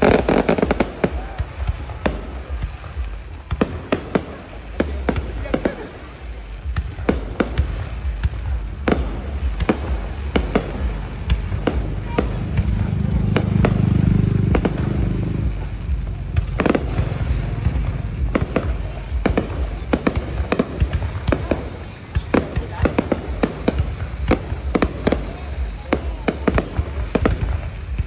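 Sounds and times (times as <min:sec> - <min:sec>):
fireworks bangs: 0:00.0 - 0:28.0
low rumbling: 0:00.0 - 0:28.0.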